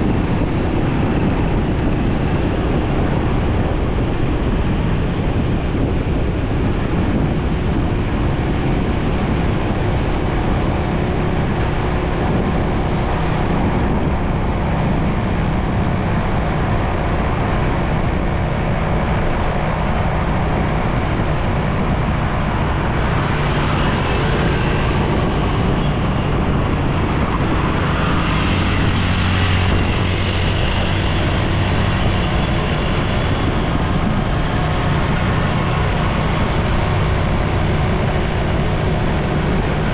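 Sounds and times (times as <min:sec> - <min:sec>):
large vehicle engine drone: 0:00.0 - 0:39.9
traffic: 0:00.0 - 0:39.9.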